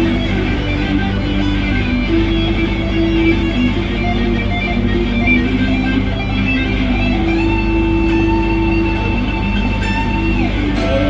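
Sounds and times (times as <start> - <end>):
electric guitar notes: 0.0 - 11.0.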